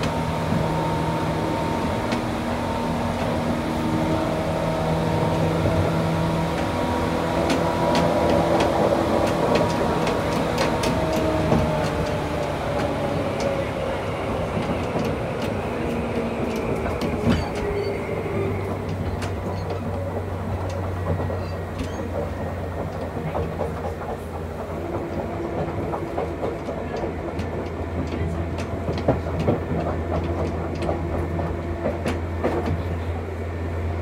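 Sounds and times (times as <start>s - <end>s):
wheels clicking over rail joints: 0.0s - 33.8s.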